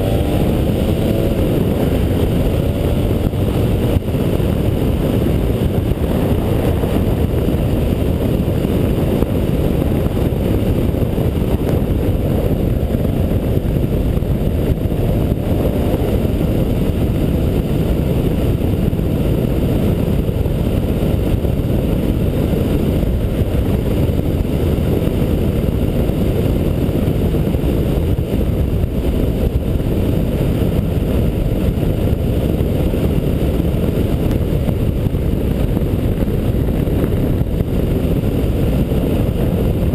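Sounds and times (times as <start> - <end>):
motorcycle engine rumble: 0.0 - 39.9
wind buffeting microphone: 0.0 - 39.9.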